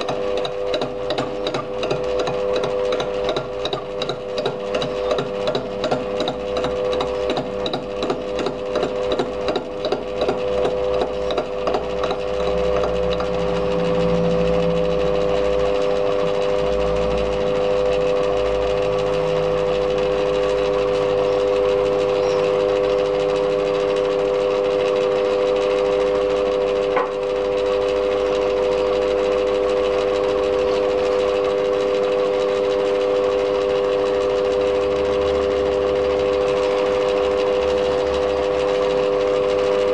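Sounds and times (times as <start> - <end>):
lathe fly cutter striking metal: 0.0 - 39.9
lathe running hum: 0.0 - 39.9.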